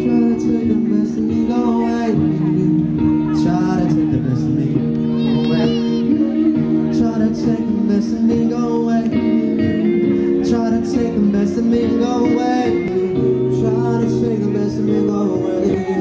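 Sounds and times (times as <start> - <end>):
guitar: 0.0 - 16.0
live band playing: 0.0 - 16.0
person singing: 0.0 - 16.0.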